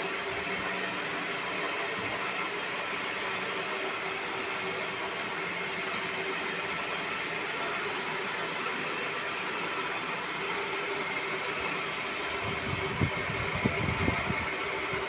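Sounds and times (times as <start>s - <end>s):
machine droning: 0.0s - 15.0s.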